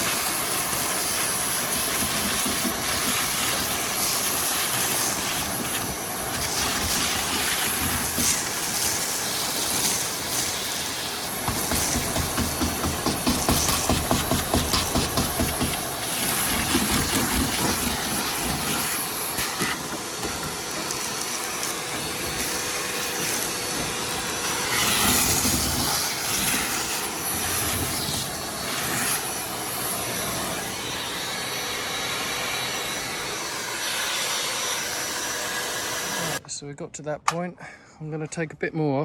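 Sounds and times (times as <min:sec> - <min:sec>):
power tool cutting sheet metal: 0:00.0 - 0:36.4.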